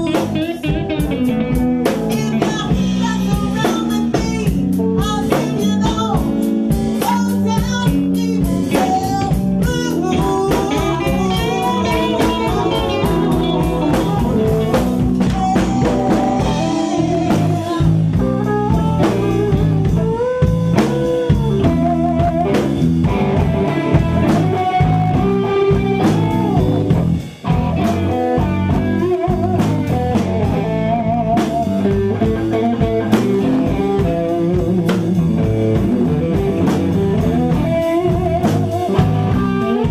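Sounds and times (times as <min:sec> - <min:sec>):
blues band playing live: 0:00.0 - 0:39.9
drum kit: 0:00.0 - 0:39.9
electric guitar lead lines: 0:00.0 - 0:39.9.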